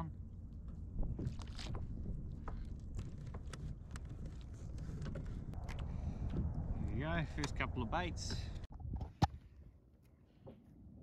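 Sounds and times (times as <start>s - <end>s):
wind rumbling on microphone: 0.0s - 9.8s.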